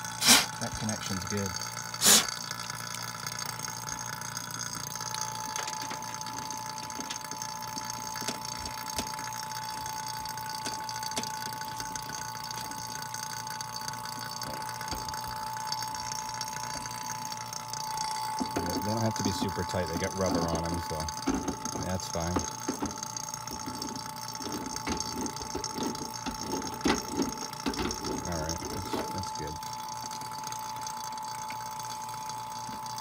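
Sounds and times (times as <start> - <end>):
vacuum pump running: 0.0 - 33.0.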